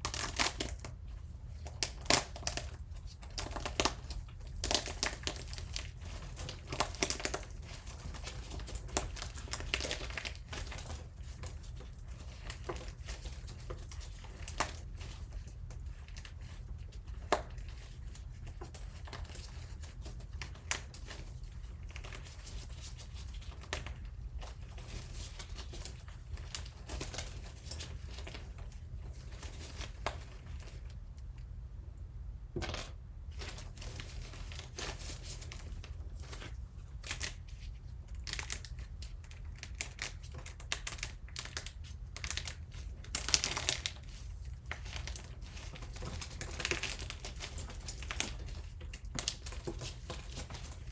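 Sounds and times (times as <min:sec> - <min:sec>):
crinkling and tearing: 0:00.0 - 0:31.0, 0:33.4 - 0:50.9.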